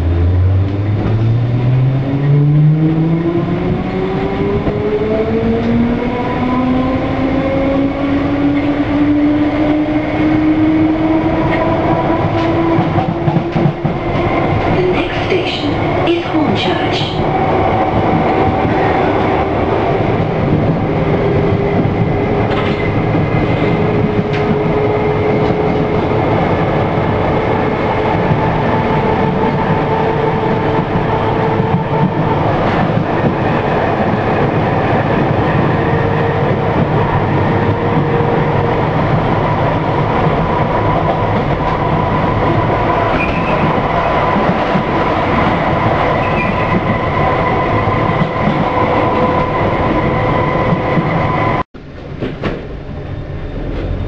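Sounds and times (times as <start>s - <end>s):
train wheel and running noise: 0.0s - 54.0s.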